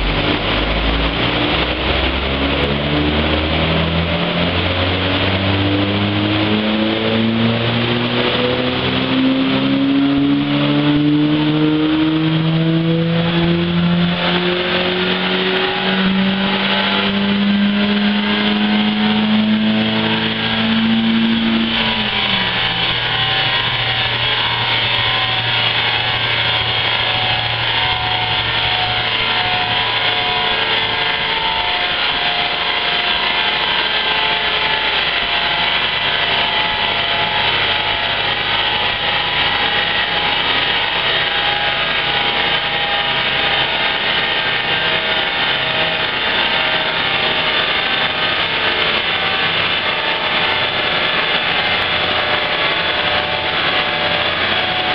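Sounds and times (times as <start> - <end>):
car engine revving on dynamometer: 0.0 - 54.9.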